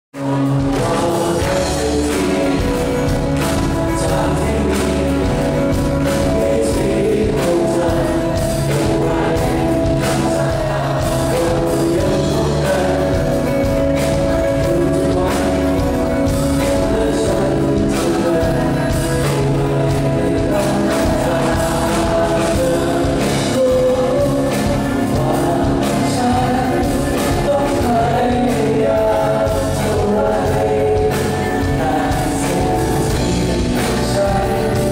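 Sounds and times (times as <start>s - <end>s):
electric and acoustic guitars: 0.2s - 34.9s
person singing: 0.2s - 34.9s.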